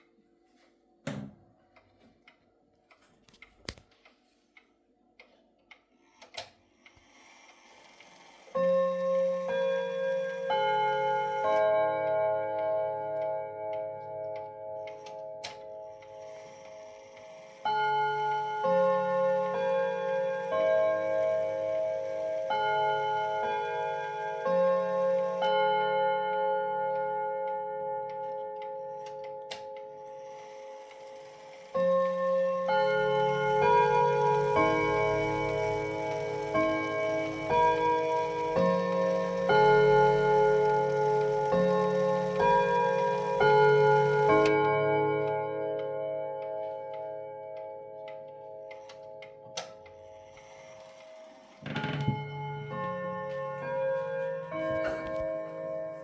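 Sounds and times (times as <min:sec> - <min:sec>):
chime clock playing notes: 0:07.0 - 0:56.0.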